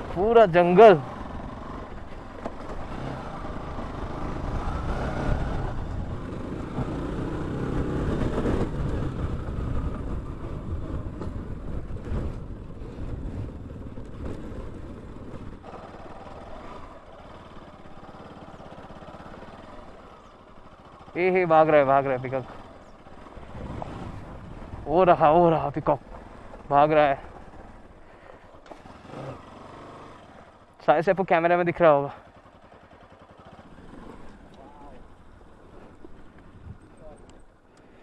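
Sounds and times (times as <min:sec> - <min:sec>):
motorcycle engines running: 0:00.0 - 0:38.0.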